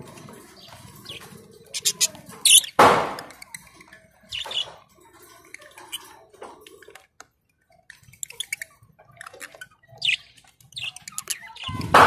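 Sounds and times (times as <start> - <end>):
small parrots chirping: 0.6 - 6.2, 7.8 - 11.9.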